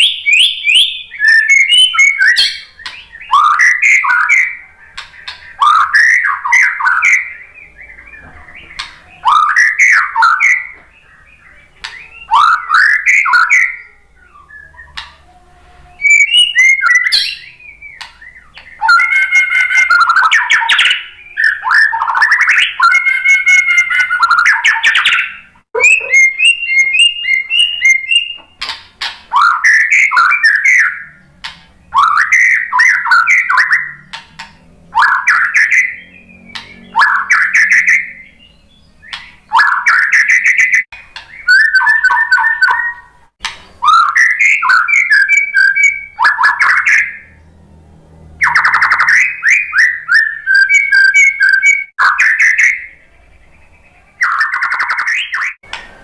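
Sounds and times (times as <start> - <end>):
bird singing whistles and trills: 0.0 - 43.2, 43.8 - 47.5, 48.4 - 55.7.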